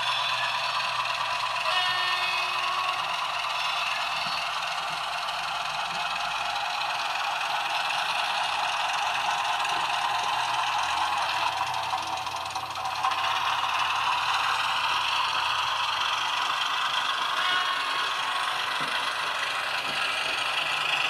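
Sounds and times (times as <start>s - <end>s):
small diesel engine sound from speaker: 0.0s - 21.0s.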